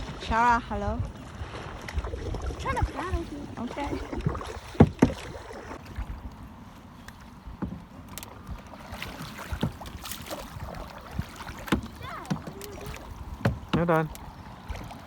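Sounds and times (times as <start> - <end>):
paddle strokes in water: 0.0 - 15.0
paddle knocking on canoe: 2.7 - 15.0.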